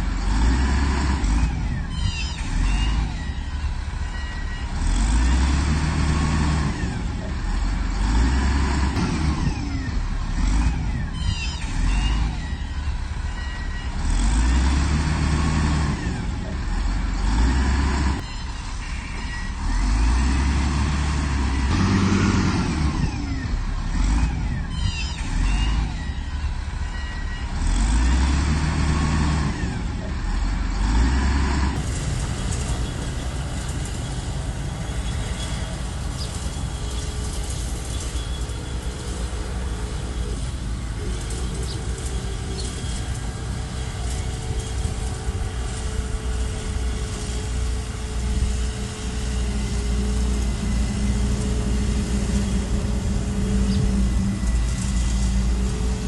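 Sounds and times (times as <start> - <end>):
heavy diesel engine working: 0.0 - 56.0
metallic squeals and clanks: 0.2 - 20.6, 21.4 - 31.1, 31.8 - 56.0.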